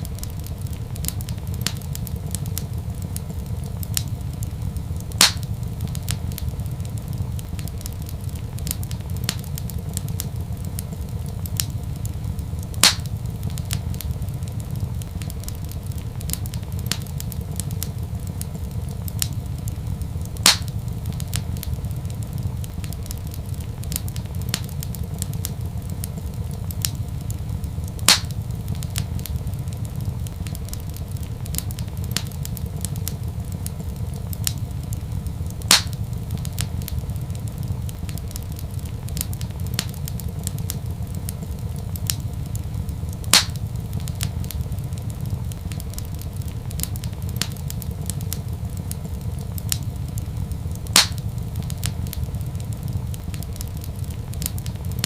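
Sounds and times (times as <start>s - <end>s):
sharp pops of fire: 0.0s - 55.0s
wood fire crackling: 0.0s - 55.0s.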